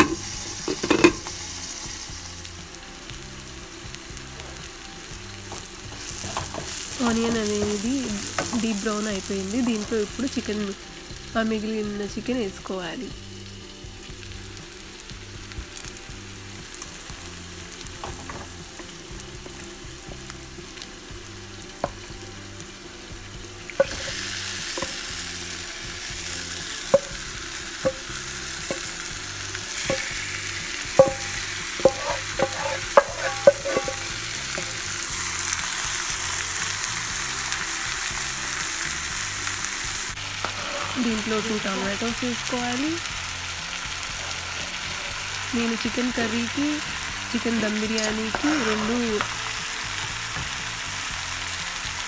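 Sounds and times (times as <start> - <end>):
chicken sizzling in hot oil: 0.0 - 52.0.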